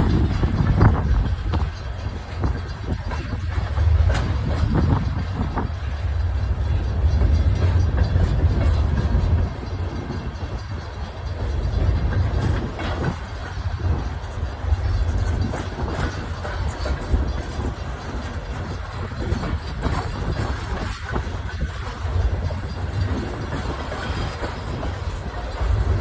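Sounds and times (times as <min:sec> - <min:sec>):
clanks and knocks from train cars: 0:00.0 - 0:26.0
freight train rumbling past: 0:00.0 - 0:26.0.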